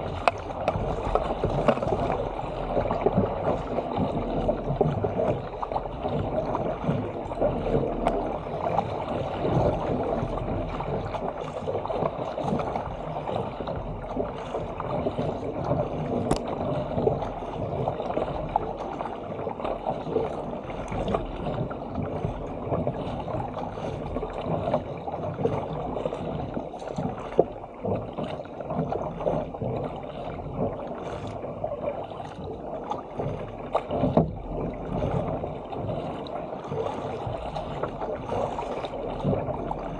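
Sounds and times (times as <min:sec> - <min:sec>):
water splashing against hull: 0:00.0 - 0:39.9.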